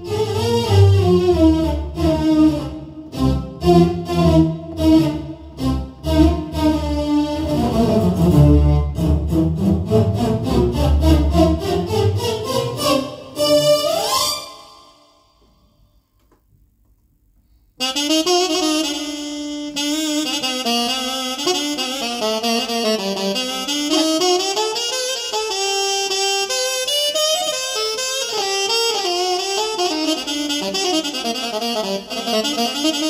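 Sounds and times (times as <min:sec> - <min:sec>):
keyboard playing saxophone sound: 0:00.0 - 0:15.4, 0:17.8 - 0:33.0.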